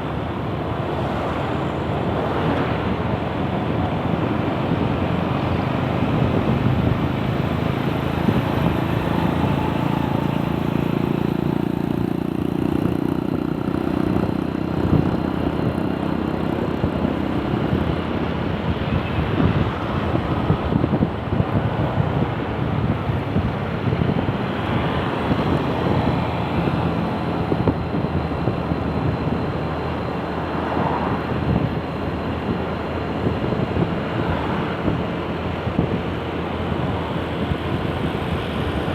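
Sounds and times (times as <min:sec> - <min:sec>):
passing vehicle engine drone: 0:00.0 - 0:38.9
road traffic rumble: 0:00.0 - 0:38.9
wind buffeting microphone: 0:00.0 - 0:38.9.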